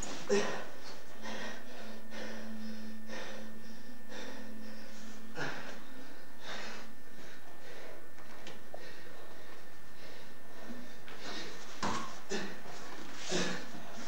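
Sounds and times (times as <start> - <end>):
heavy laboured breathing: 0.0 - 14.0.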